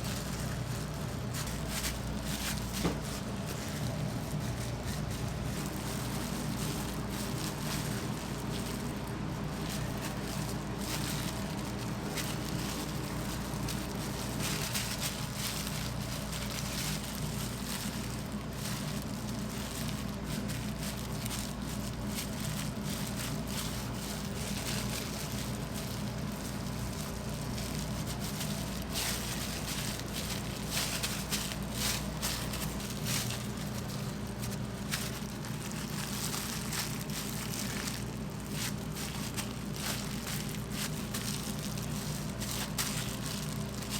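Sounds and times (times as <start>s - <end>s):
machine hum: 0.0s - 43.9s.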